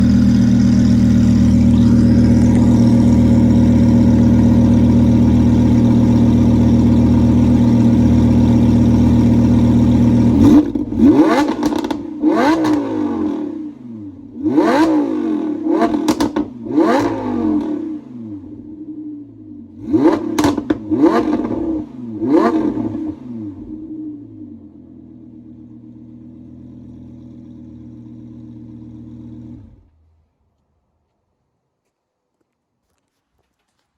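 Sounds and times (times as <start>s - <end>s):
car engine revving: 0.0s - 18.9s, 19.7s - 30.0s.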